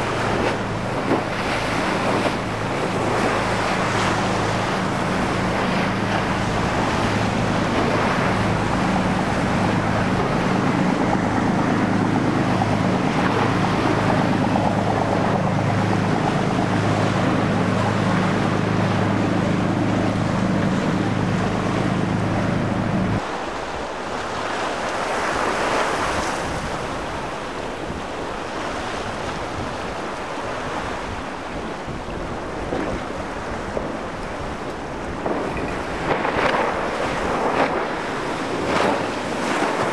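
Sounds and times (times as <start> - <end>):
boat engines droning: 0.0 - 39.9
churning surf: 0.0 - 39.9
wind buffeting microphone: 0.0 - 39.9.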